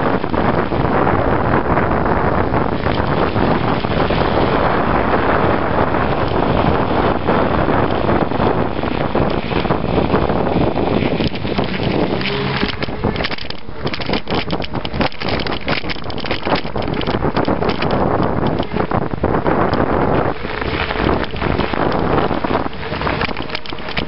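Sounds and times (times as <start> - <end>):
wind noise on microphone: 0.0 - 24.0
tyres rolling over snow: 0.1 - 24.0.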